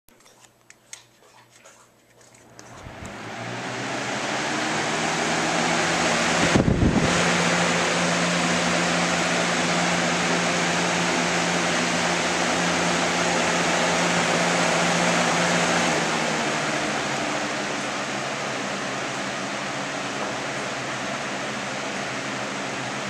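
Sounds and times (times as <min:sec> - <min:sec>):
low fan hum: 0:02.4 - 0:23.0
box fan rushing air: 0:02.5 - 0:23.0.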